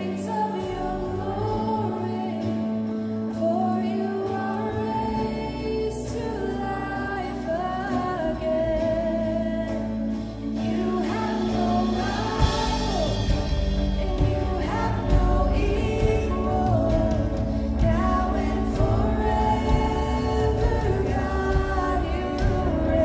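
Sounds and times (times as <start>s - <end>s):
drums: 0.0s - 23.0s
electric bass: 0.0s - 23.0s
guitars: 0.0s - 23.0s
woman singing lead vocal: 0.0s - 23.0s.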